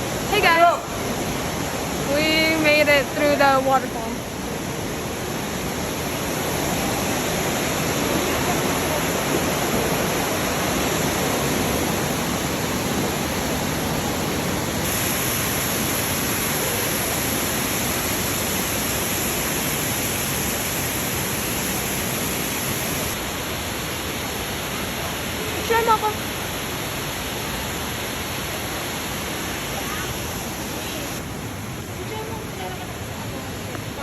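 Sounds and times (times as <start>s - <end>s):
waterfall roaring: 0.0s - 34.0s.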